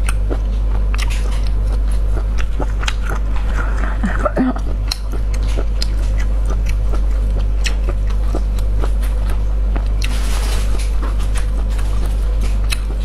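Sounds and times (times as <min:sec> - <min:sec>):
steady low hum: 0:00.0 - 0:13.0
wet chewing mouth clicks: 0:00.0 - 0:13.0.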